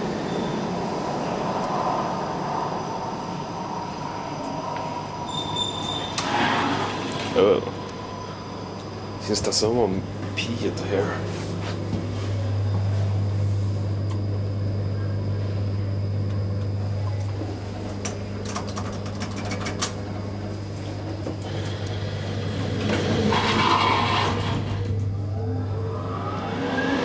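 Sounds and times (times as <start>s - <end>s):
elevator hum: 0.0s - 27.0s.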